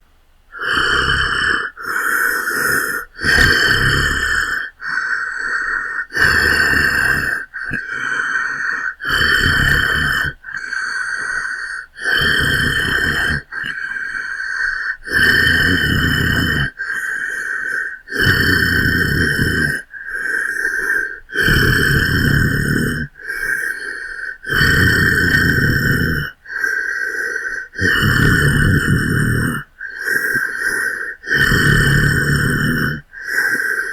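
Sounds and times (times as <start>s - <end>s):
harsh breathy growls: 0.5s - 33.9s.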